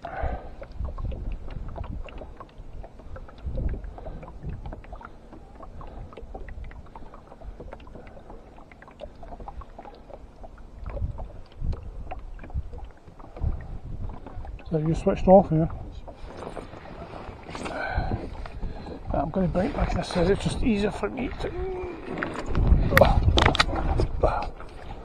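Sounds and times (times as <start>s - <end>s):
low rumbles: 0.0s - 25.0s
water lapping and splashing: 0.0s - 25.0s.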